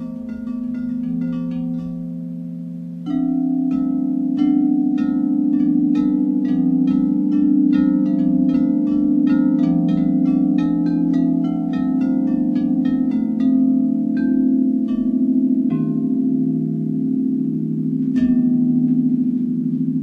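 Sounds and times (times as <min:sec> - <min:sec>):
ringing bowl drone: 0:00.0 - 0:20.0
singing bowls struck with mallets: 0:00.0 - 0:20.0.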